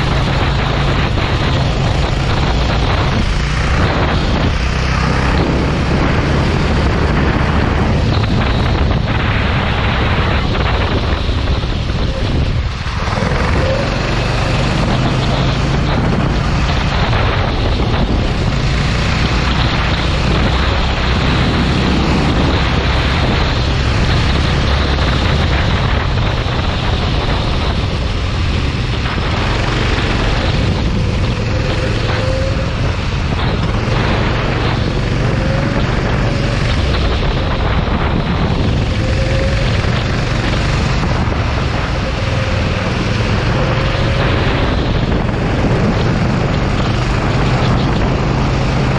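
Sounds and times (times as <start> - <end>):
go-kart engine running: 0.0 - 48.9
wind noise on microphone: 0.0 - 48.9.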